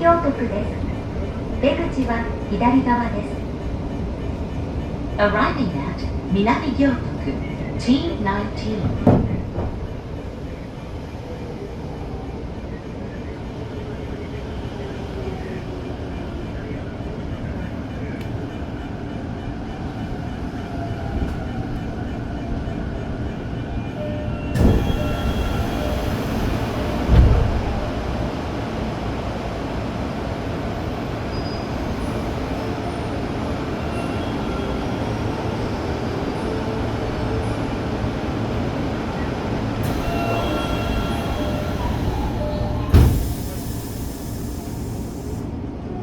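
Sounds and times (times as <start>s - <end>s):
train rumble: 0.0s - 46.0s.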